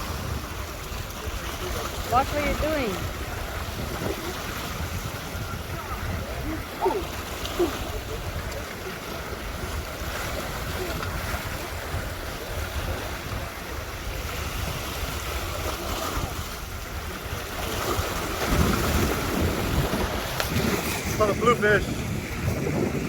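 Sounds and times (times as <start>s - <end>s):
surf: 0.0s - 23.0s
wind buffeting microphone: 0.0s - 23.0s.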